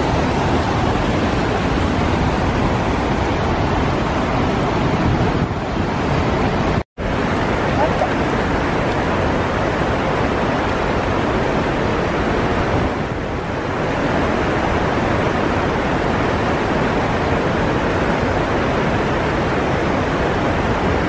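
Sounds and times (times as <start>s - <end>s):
waterfall and rushing river: 0.0s - 21.0s.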